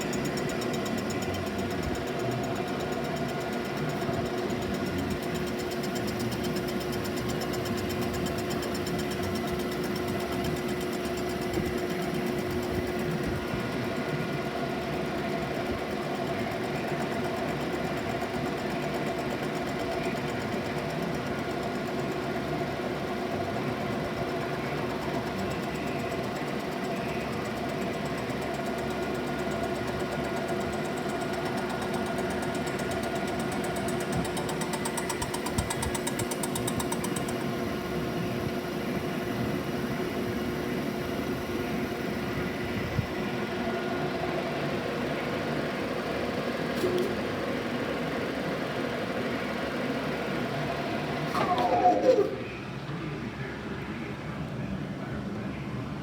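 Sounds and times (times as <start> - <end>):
machine tool humming: 0.0 - 52.7.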